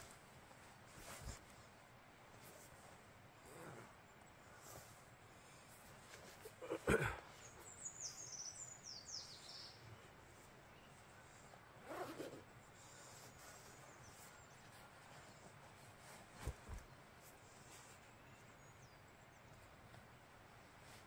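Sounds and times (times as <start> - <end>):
quiet outdoor ambience: 0.0 - 21.0.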